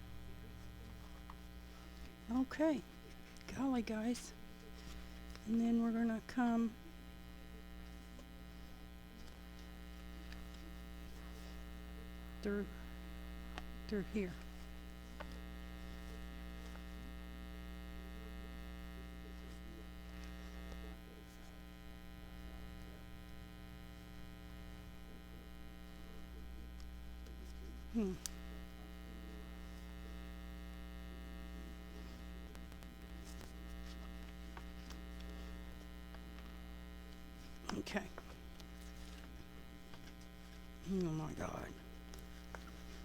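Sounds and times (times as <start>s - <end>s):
electrical mains hum: 0.0s - 43.0s.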